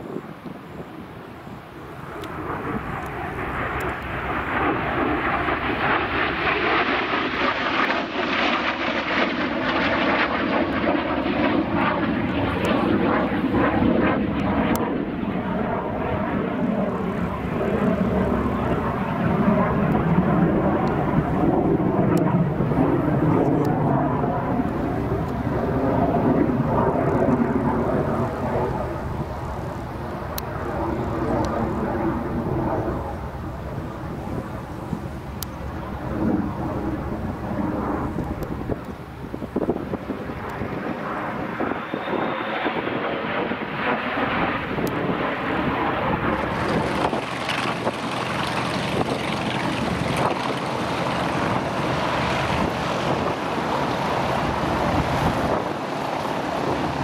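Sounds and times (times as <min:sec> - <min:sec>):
jet engine roaring: 0:00.0 - 0:57.0.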